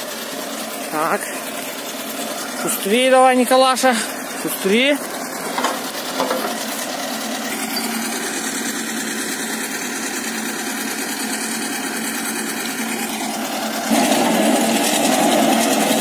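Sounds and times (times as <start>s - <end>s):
skidder engine running: 0.0s - 16.0s.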